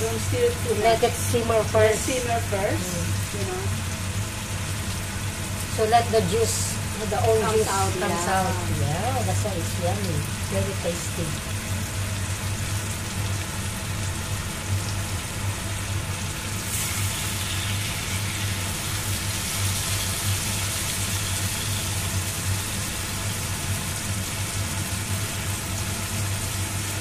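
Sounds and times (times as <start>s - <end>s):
food sizzling in a wok: 0.0s - 27.0s
steady low hum: 0.0s - 27.0s.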